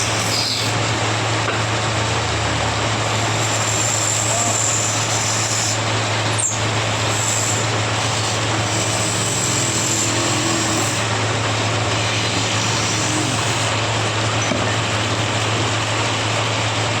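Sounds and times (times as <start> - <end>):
woodworking machine whirring: 0.0 - 17.0.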